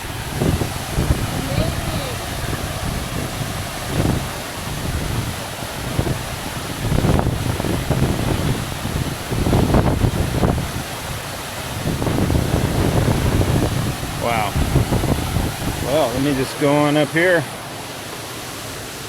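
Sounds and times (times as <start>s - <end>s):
wind buffeting microphone: 0.0s - 18.0s
waterfall rushing: 0.0s - 19.0s.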